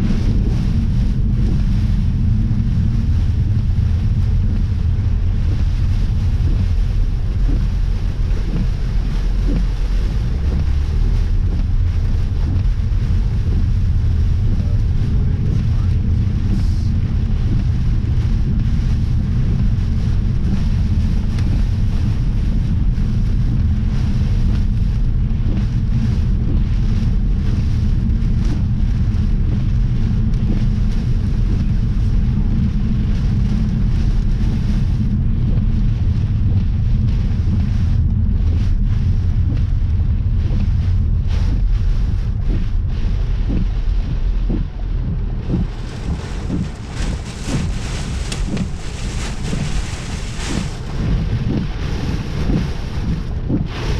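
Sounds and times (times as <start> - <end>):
storm wind buffeting microphone: 0.0 - 53.9.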